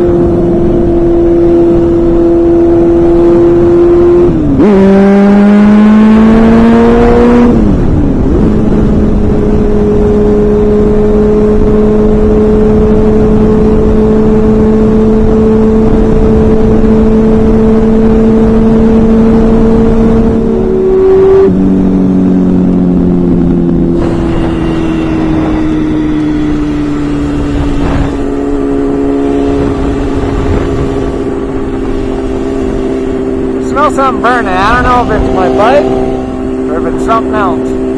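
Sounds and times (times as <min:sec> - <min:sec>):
motorcycle engine accelerating: 0:00.0 - 0:37.9
wind noise rushing: 0:00.0 - 0:37.9.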